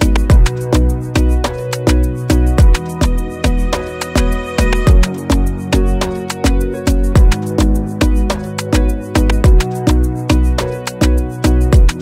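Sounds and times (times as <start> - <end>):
music with deep thumping beat: 0.0 - 12.0.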